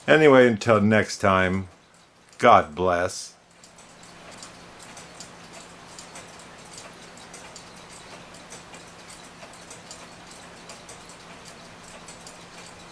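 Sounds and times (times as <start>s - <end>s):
pendulum clocks ticking: 0.0s - 12.9s.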